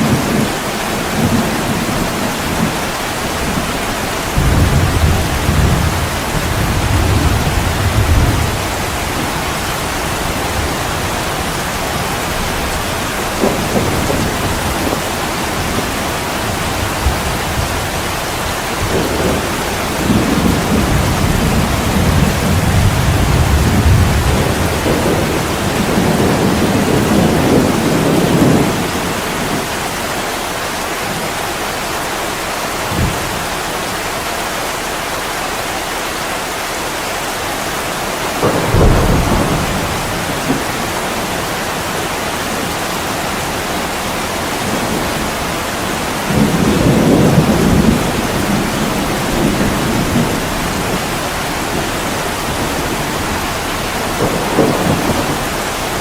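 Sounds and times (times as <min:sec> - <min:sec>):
thunder rolling: 0:00.0 - 0:29.8, 0:38.0 - 0:56.0
heavy rain falling: 0:00.0 - 0:56.0.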